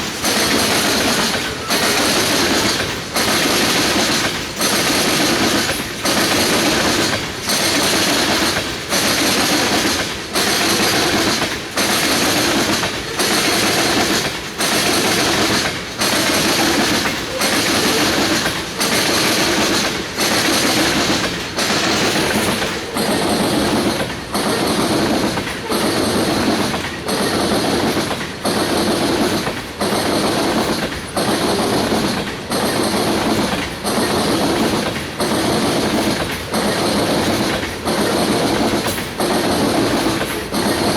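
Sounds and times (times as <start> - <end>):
train wheels beating over rails: 0.0 - 40.9.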